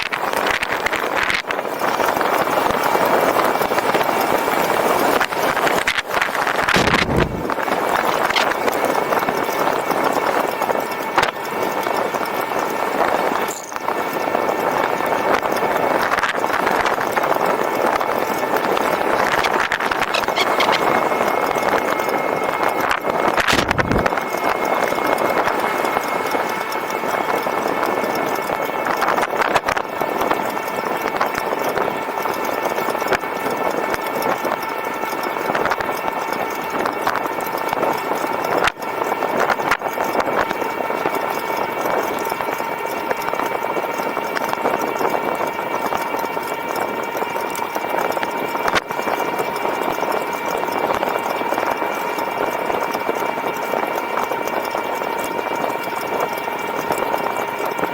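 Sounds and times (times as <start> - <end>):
electric motor whine: 0.0 - 57.9
wind and road noise: 0.0 - 57.9.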